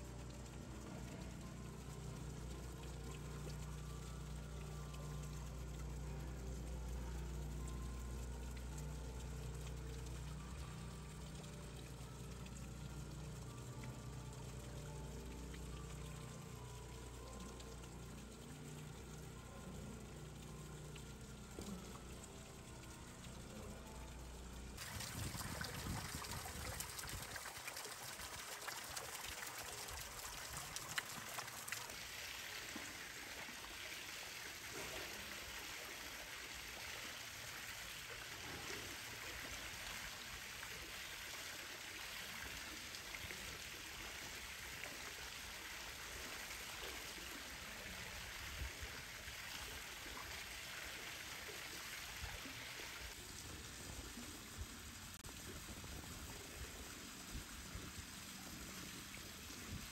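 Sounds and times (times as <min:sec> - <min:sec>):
trickling running water: 0:00.0 - 0:59.9.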